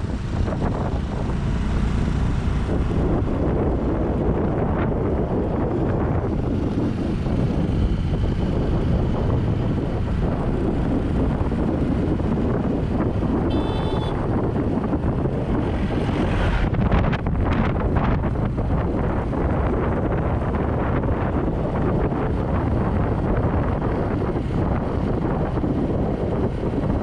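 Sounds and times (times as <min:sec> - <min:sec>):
vehicle low rumble: 0:00.0 - 0:27.0
wind buffeting microphone: 0:00.0 - 0:27.0.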